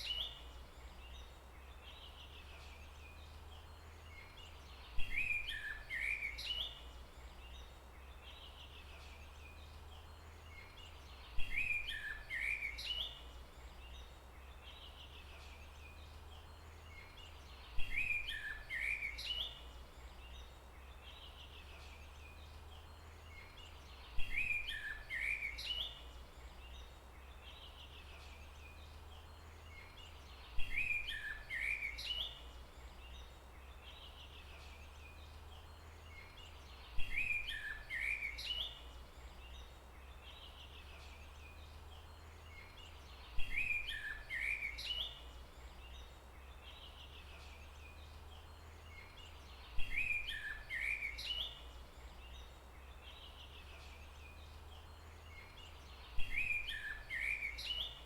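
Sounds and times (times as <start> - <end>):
songbird chirping phrase: 0.0 - 58.0.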